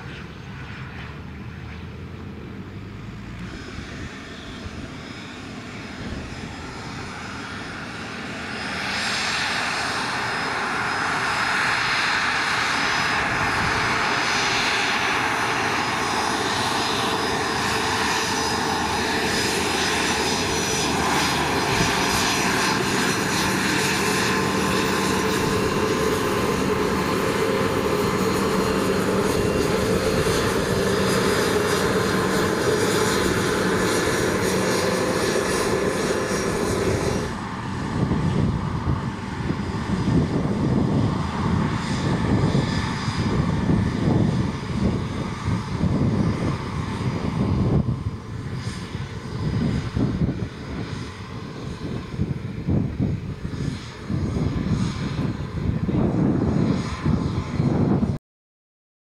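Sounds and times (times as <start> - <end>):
jet engines whining: 0.0 - 58.2.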